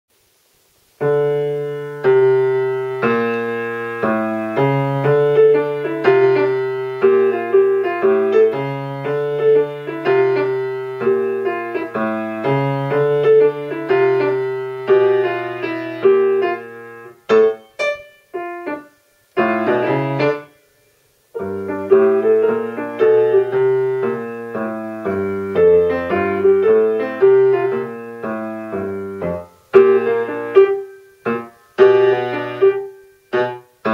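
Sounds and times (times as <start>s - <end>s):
swing jazz piano: 0.8s - 20.5s, 21.2s - 33.9s.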